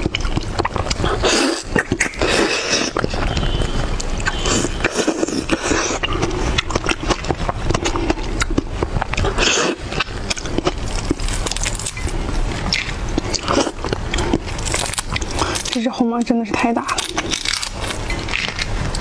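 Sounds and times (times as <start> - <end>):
prawn shell cracking and peeling: 0.0 - 19.0.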